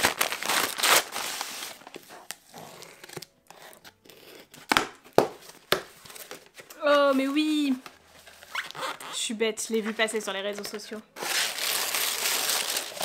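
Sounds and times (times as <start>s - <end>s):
paper rustling and crackles: 0.0s - 3.9s, 4.5s - 9.0s, 9.8s - 13.0s
paper tearing and crinkling: 0.0s - 9.2s, 9.8s - 13.0s.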